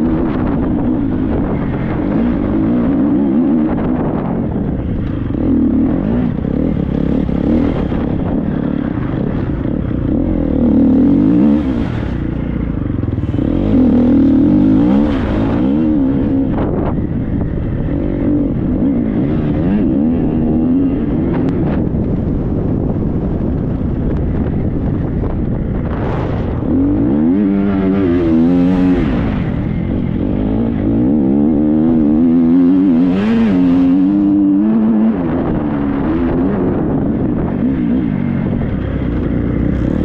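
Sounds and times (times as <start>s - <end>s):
motocross bike engine revving: 0.0s - 22.2s, 25.8s - 40.0s.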